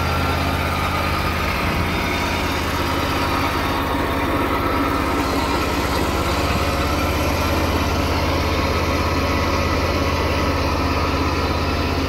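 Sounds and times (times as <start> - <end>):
mower engine idling: 0.0 - 12.0.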